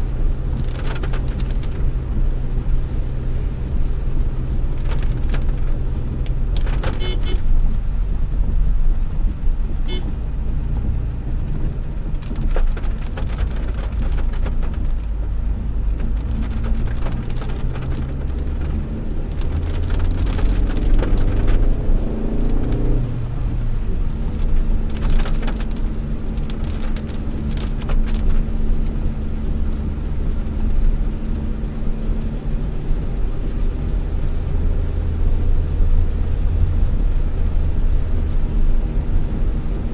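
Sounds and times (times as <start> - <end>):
car engine: 0.0 - 39.9
rain striking car: 0.0 - 39.9
tyres on wet road: 0.0 - 39.9.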